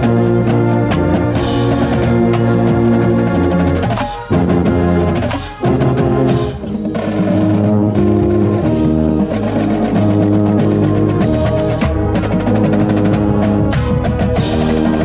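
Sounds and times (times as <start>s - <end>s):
brass line playing chords: 0.0s - 15.0s
contrabass bugle bass line: 0.0s - 15.0s
percussion: 0.0s - 15.0s.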